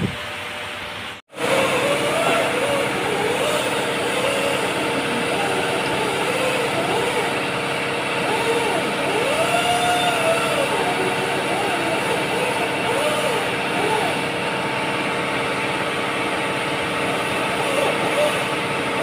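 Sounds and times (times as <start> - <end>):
workshop mechanical hum: 0.0 - 19.0.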